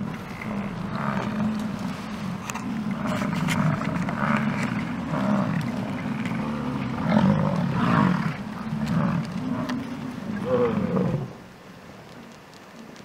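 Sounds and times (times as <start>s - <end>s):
bison bellowing: 0.0s - 11.4s.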